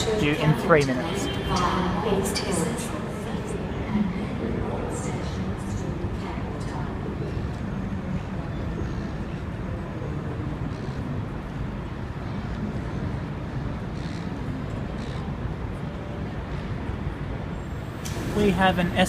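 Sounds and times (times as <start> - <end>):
low rumble of station ambience: 0.0 - 19.0
traffic noise: 0.0 - 19.0.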